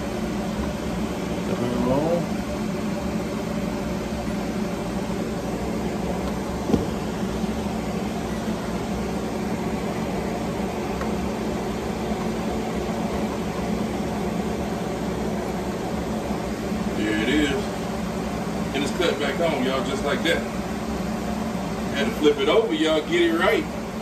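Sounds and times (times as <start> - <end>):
convection oven fan hum: 0.0 - 24.0.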